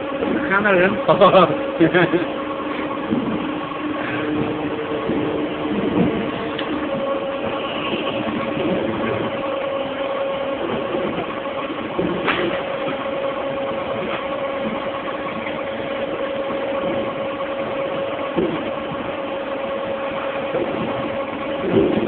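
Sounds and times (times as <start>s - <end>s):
motor hum: 0.0s - 22.0s
steady machine whine: 0.0s - 22.0s.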